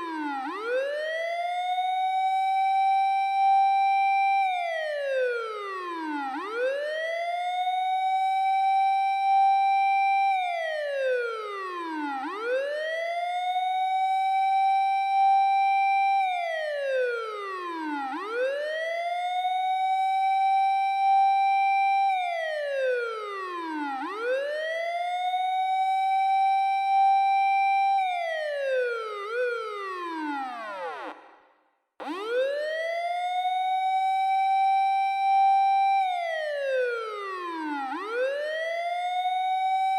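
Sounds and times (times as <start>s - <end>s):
fire engine siren wailing: 0.0s - 31.2s, 32.0s - 39.9s.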